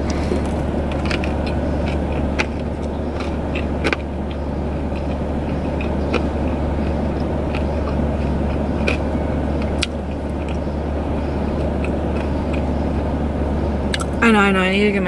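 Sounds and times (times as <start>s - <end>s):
person chewing food: 0.0s - 14.2s
car idling: 0.0s - 15.0s.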